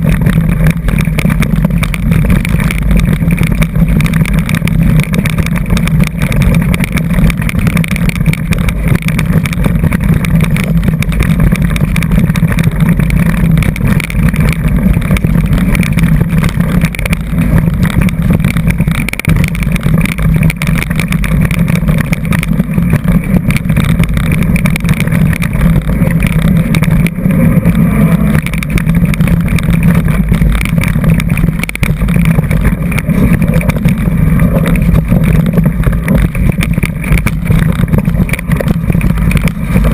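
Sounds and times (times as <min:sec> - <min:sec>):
bike rattling and knocking: 0:00.0 - 0:39.9
bike tyres rumbling on dirt: 0:00.0 - 0:39.9
wind buffeting microphone: 0:00.0 - 0:39.9.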